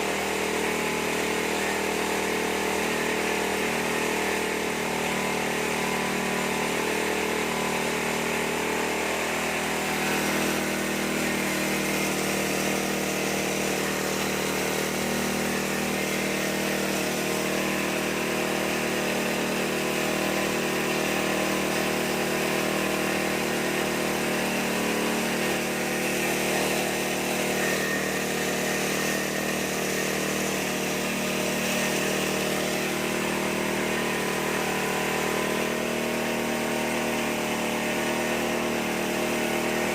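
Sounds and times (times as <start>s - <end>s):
corn sheller machine running: 0.0s - 39.9s.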